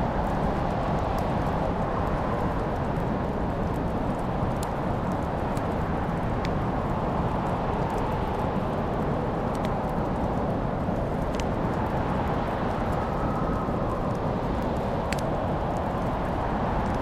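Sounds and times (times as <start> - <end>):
fire low rumble: 0.0 - 17.0
wood fire crackling and popping: 0.0 - 17.0.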